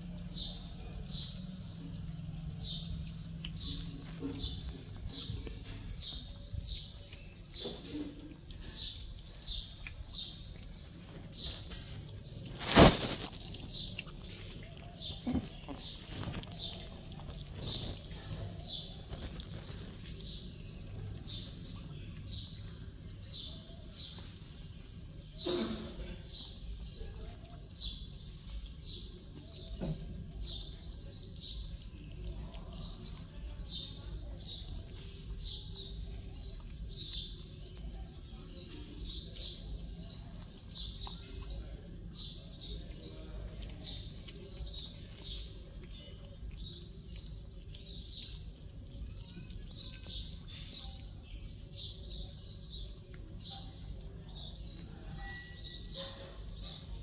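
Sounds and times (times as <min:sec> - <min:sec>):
low background hum: 0:00.0 - 0:57.0
small birds chirping: 0:00.0 - 0:57.0.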